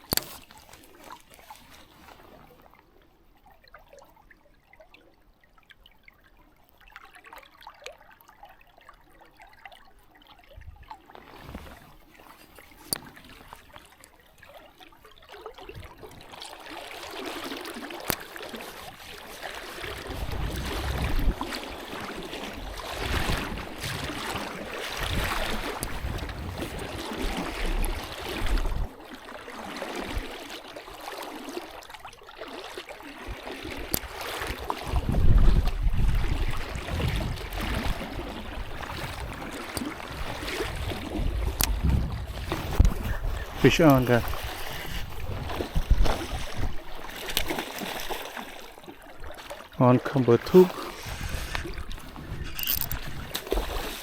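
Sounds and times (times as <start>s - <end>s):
creek water trickling: 0.0s - 54.0s.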